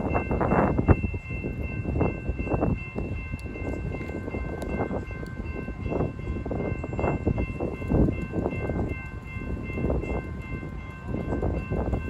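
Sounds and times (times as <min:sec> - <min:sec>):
train passing with wheel clatter: 0:00.0 - 0:12.0.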